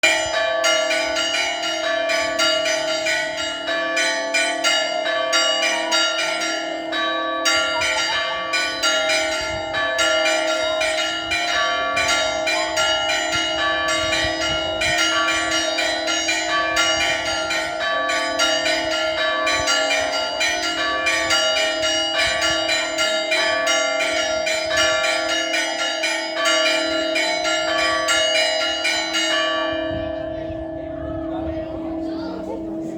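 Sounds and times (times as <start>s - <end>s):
church bells pealing: 0.0s - 32.9s.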